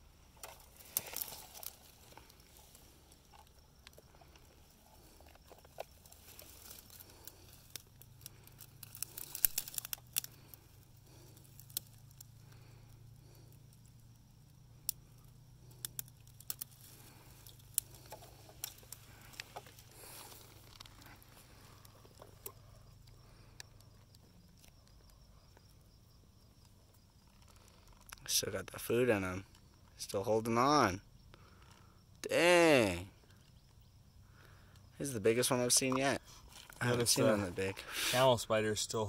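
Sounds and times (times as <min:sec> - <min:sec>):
dry twigs and leaves crackling: 0:00.2 - 0:25.7, 0:26.3 - 0:28.3, 0:33.2 - 0:37.9.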